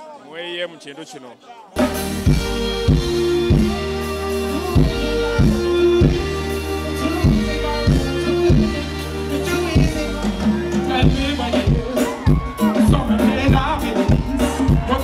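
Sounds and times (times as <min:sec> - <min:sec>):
live band music: 0:01.7 - 0:15.0.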